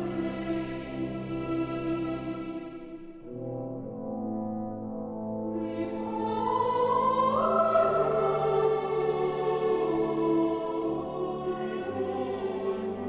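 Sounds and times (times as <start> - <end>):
orchestral music with brass and choir: 0.0 - 13.0.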